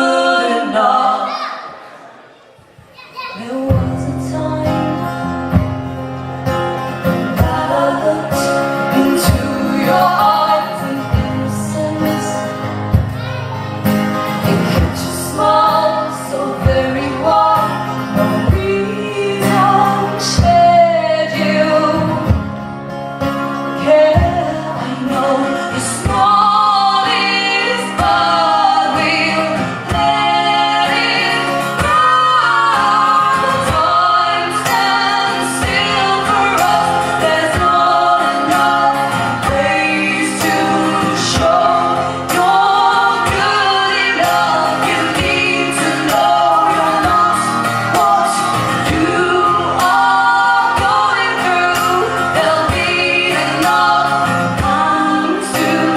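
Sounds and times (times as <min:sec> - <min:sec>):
women singing: 0:00.0 - 0:01.8, 0:03.4 - 0:13.0, 0:14.4 - 0:22.6, 0:23.7 - 0:55.9
full band playing: 0:01.7 - 0:55.9
strummed acoustic guitar: 0:03.2 - 0:55.9.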